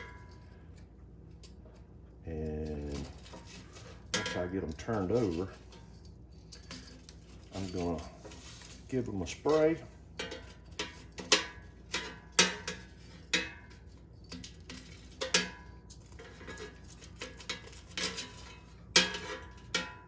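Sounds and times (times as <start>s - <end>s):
utensil clinking against metal basket: 0.0s - 20.0s.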